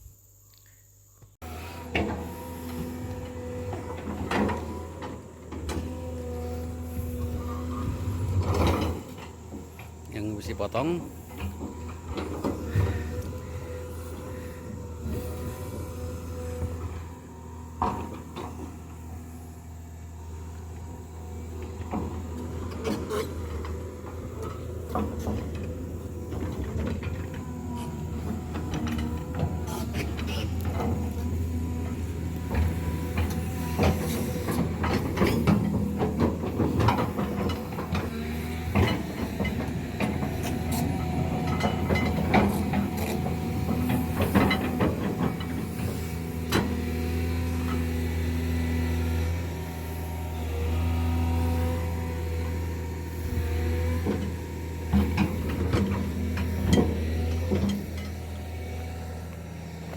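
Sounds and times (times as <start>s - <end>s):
vehicle engine droning: 1.4s - 59.9s.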